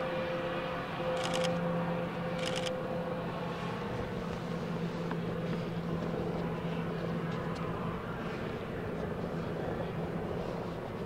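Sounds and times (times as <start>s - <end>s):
jet engine hum: 0.0s - 11.0s.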